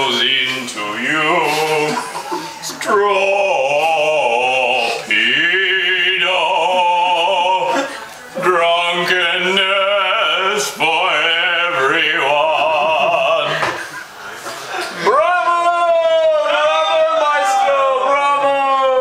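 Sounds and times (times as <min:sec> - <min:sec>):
operatic male singing: 0:00.0 - 0:14.0, 0:15.0 - 0:19.0.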